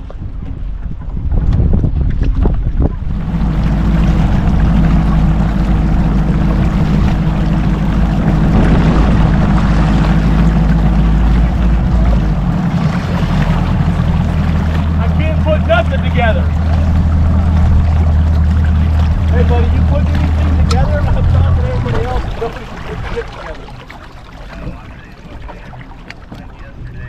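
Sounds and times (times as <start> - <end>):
outboard motor running: 0.0 - 27.0
wind and water rushing: 0.0 - 27.0.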